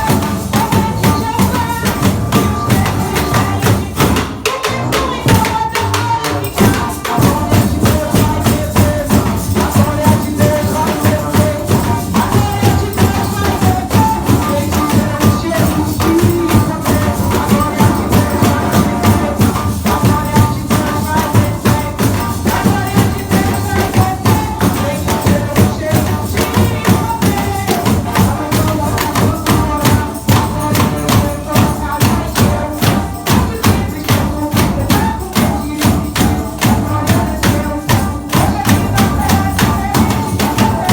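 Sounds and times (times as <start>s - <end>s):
drum and hand-percussion strokes: 0.0s - 40.9s.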